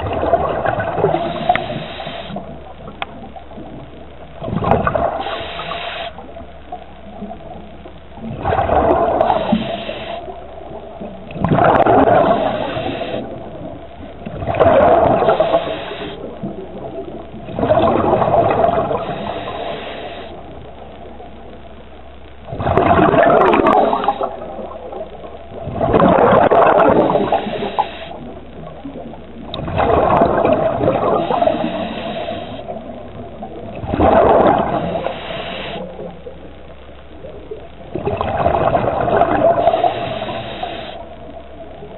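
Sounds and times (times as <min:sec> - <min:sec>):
exhaled bubbles rushing: 0:00.0 - 0:21.8, 0:22.5 - 0:36.5, 0:37.2 - 0:41.9
regulator hiss: 0:00.9 - 0:03.7, 0:04.6 - 0:07.7, 0:09.0 - 0:11.0, 0:11.6 - 0:22.0, 0:22.9 - 0:29.1, 0:30.2 - 0:37.6, 0:38.9 - 0:41.9.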